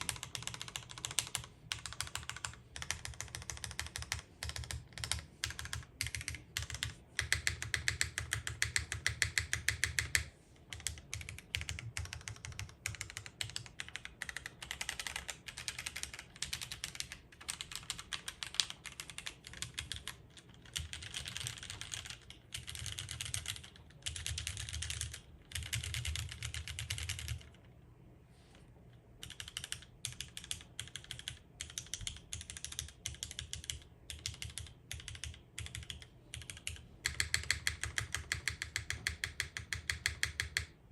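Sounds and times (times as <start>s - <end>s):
fast mechanical keyboard typing: 0.0s - 27.6s, 29.2s - 40.8s.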